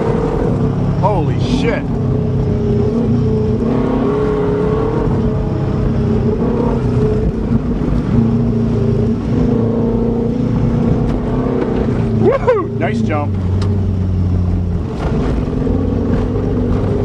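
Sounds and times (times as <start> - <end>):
car engine running: 0.0 - 17.0
dense low rumble: 0.0 - 17.0.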